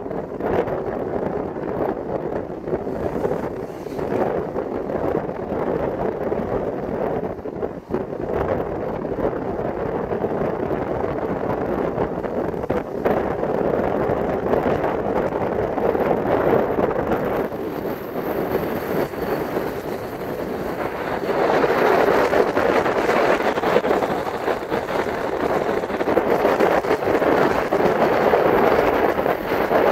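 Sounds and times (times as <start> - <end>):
car road noise: 0.0 - 29.9
wind buffeting microphone: 0.0 - 29.9.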